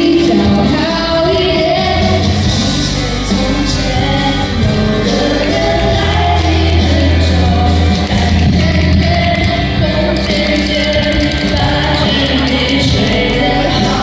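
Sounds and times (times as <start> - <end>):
loud music with singing: 0.0 - 14.0.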